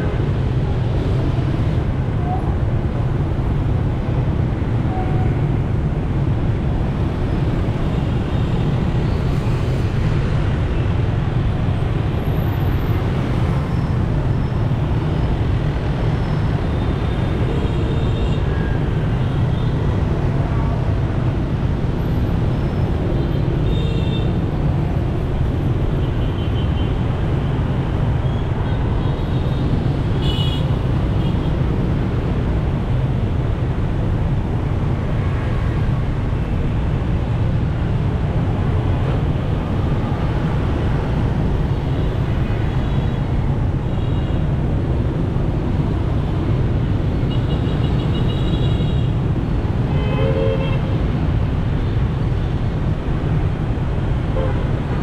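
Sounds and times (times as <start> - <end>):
traffic rumble from vehicle: 0.0 - 55.0.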